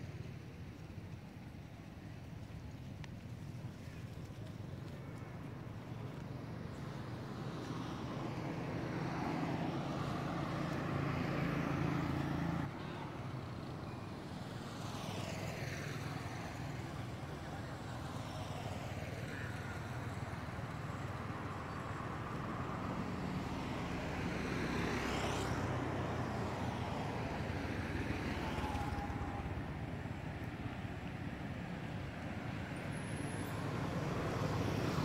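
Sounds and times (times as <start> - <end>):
hum of passing vehicles: 0.0 - 35.0
motorbikes passing: 3.6 - 35.0.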